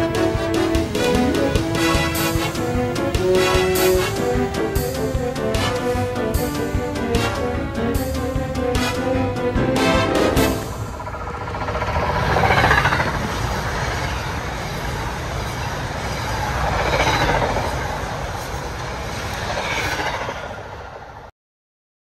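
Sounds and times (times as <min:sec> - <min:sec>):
train wheels rumbling on rails: 0:00.0 - 0:21.3.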